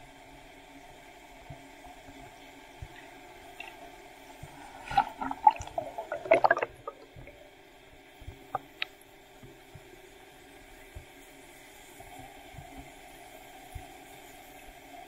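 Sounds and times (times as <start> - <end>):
faint underwater hiss: 0.0 - 15.0.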